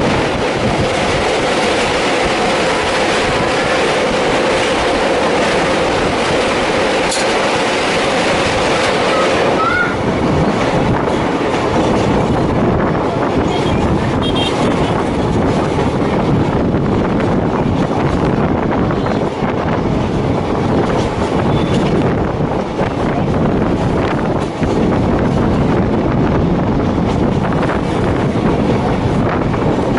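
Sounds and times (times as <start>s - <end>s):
train rumbling on track: 0.0s - 29.9s
wind on microphone: 0.0s - 29.9s.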